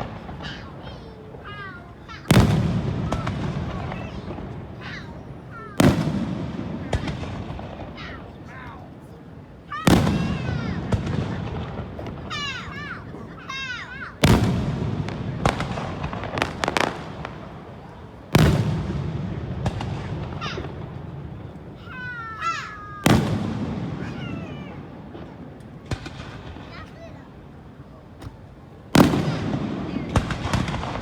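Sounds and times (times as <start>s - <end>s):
fireworks crackling pops: 0.0s - 9.0s, 9.7s - 31.0s
fireworks booming: 0.0s - 31.0s.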